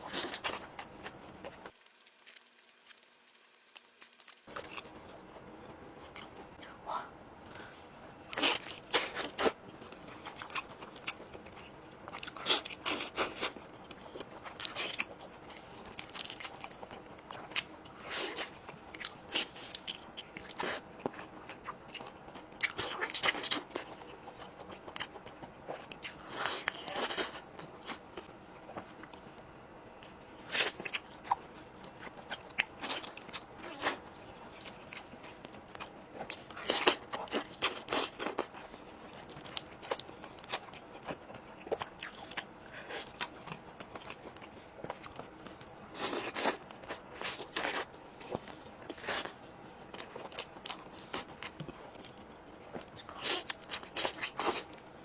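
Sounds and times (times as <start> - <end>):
chewing crispy chicken: 0.0 - 6.6, 7.6 - 55.0.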